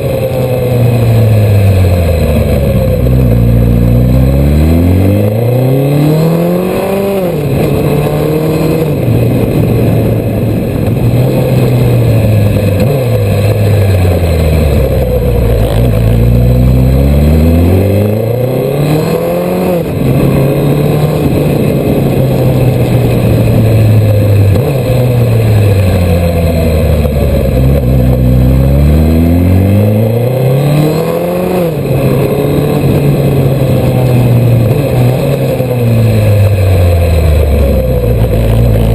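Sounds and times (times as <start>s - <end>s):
motorcycle engine revving: 0.0s - 38.9s
steady rushing noise: 0.0s - 38.9s.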